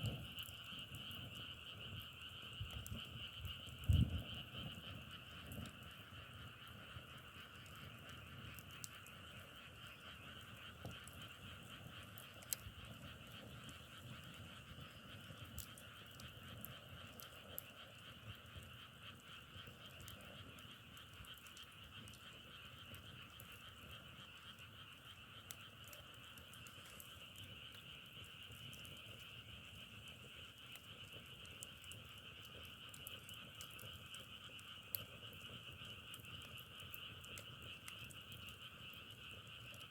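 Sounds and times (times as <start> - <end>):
faint clicks: 0.0 - 39.9
chorus of frogs calling: 0.1 - 39.9.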